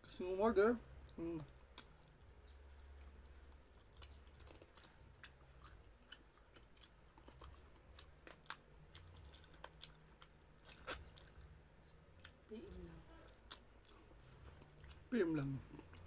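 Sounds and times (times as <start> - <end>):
person chewing: 0.9 - 12.4, 13.3 - 16.0.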